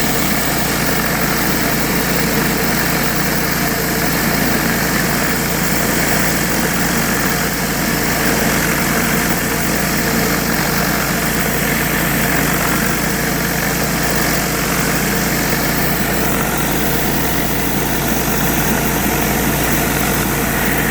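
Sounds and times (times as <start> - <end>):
high-pressure water spraying: 0.0 - 20.9
pressure washer engine hum: 0.0 - 20.9.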